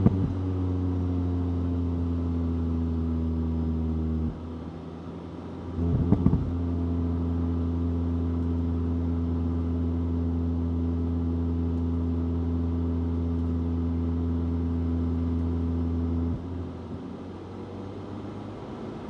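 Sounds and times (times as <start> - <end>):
car engine droning: 0.0 - 19.0
road and tyre noise: 0.0 - 19.0.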